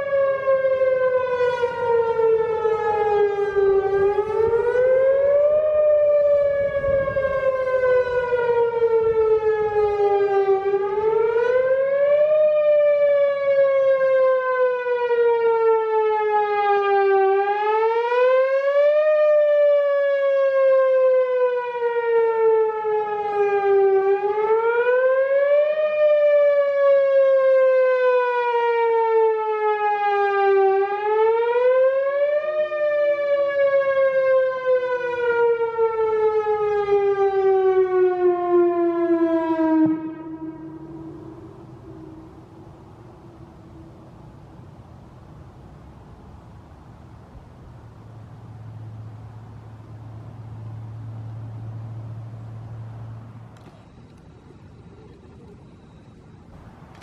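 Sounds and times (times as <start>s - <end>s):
warning siren whooping: 0.0s - 45.4s, 47.8s - 57.0s.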